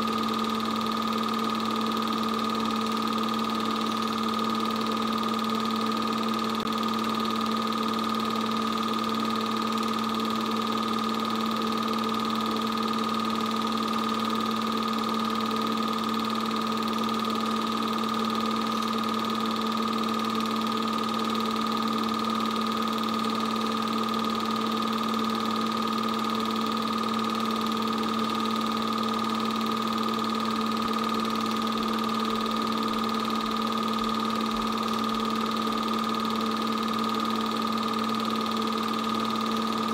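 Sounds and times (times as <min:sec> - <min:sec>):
film projector humming and whirring: 0:00.0 - 0:39.9.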